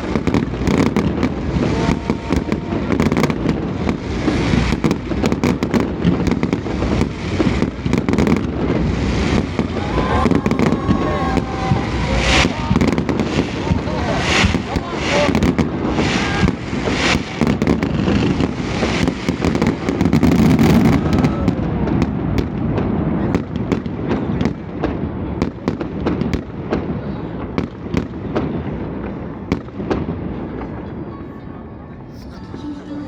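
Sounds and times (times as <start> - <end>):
fireworks crackling: 0.0 - 30.8.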